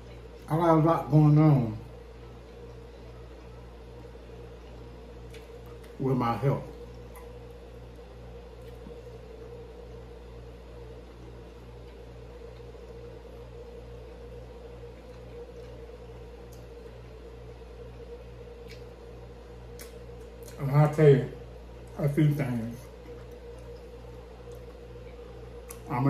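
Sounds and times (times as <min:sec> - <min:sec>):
machine hum with low throb: 0:00.0 - 0:26.0.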